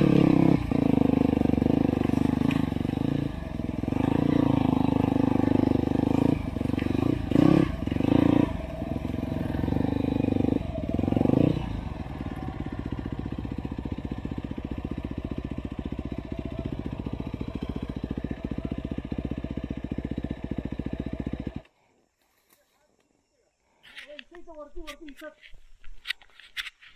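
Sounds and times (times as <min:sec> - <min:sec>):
dirt bike engines revving: 0:00.0 - 0:21.7.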